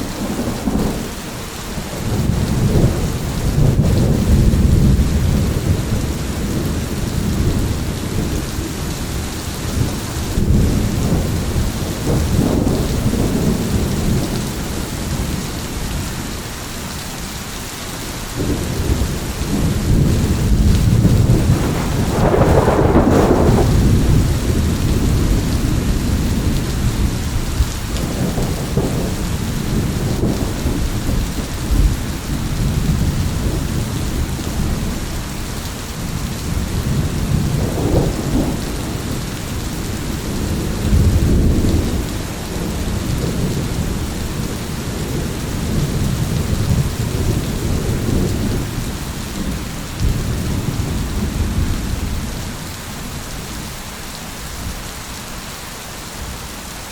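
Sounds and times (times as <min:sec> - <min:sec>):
rolling thunder: 0:00.0 - 0:16.1, 0:18.4 - 0:53.7
rain hiss: 0:00.0 - 0:56.9.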